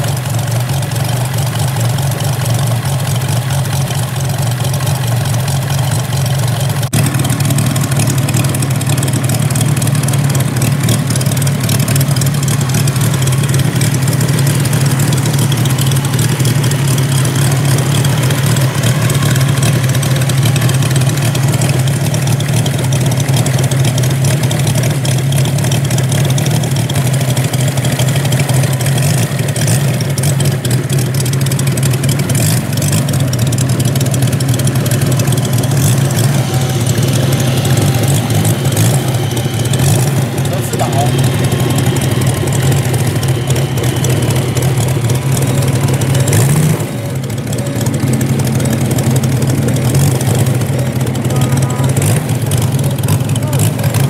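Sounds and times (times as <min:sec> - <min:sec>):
model plane engine running: 0:00.0 - 0:54.0.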